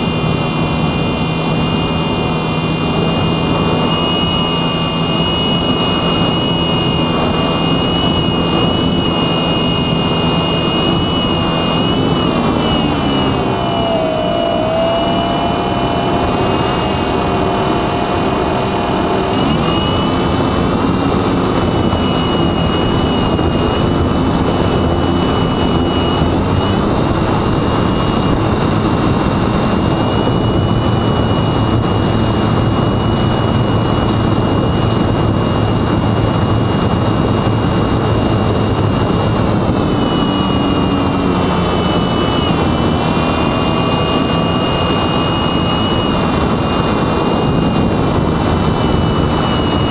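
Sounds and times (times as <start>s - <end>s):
electric motor whining: 0.0s - 49.9s
wind noise: 0.0s - 49.9s.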